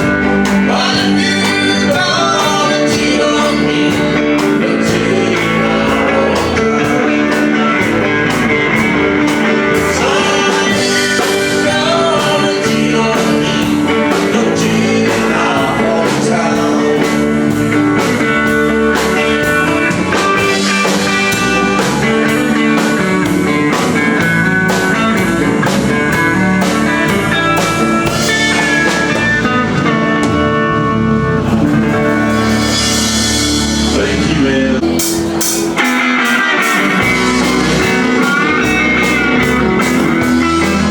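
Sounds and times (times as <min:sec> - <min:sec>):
guitars: 0:00.0 - 0:40.9
steady drum beat: 0:00.0 - 0:40.9.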